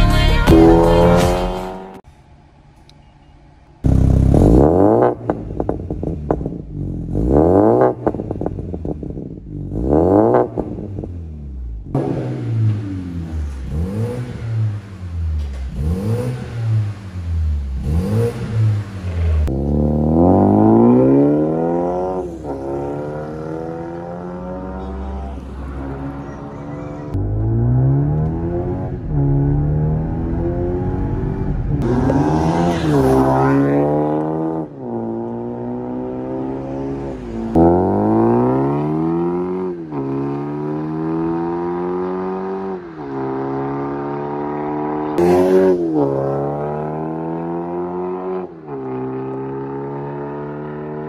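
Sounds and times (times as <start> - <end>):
car engine accelerating hard: 3.8 - 51.0.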